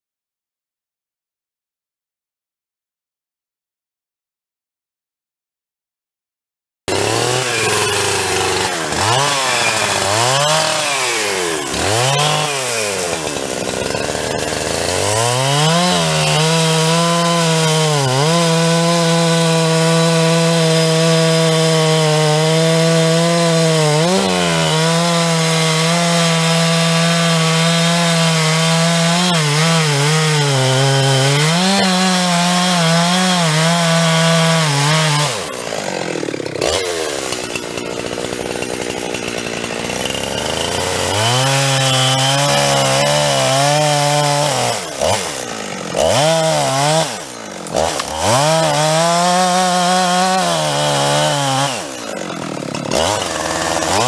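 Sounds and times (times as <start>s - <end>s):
chainsaw cutting wood: 6.9s - 54.0s.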